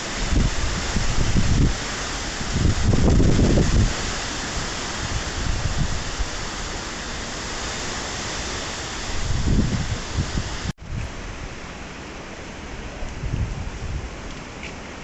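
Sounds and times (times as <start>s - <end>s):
wind gust buffeting microphone: 0.0s - 11.5s, 13.0s - 14.2s
strong wind blowing: 0.0s - 11.6s, 12.9s - 14.2s.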